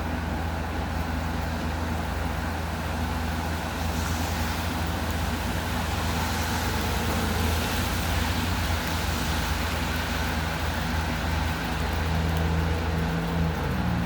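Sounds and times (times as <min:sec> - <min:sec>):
rain hiss: 0:00.0 - 0:14.0
vehicle engine hum: 0:00.0 - 0:14.0.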